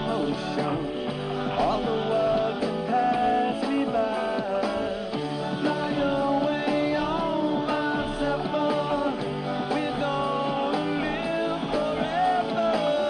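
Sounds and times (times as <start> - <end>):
rock music with electric guitar: 0.0 - 13.0
steady drum beat: 0.0 - 13.0.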